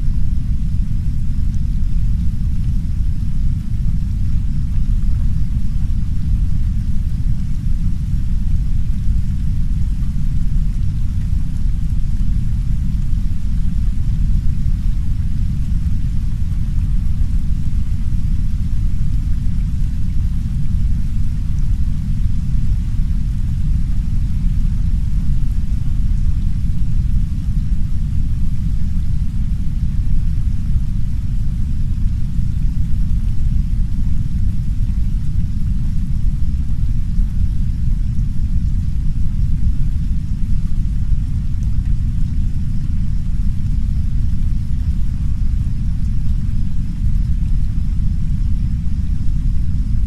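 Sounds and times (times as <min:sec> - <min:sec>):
deep brown noise rumble: 0:00.0 - 0:50.0
soft rain on a window: 0:00.0 - 0:50.0.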